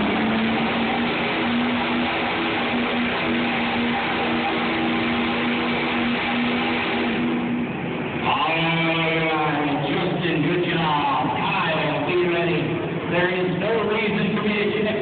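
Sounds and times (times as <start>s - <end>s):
diesel truck engine droning: 0.0s - 15.0s
tyre and exhaust noise: 0.0s - 15.0s.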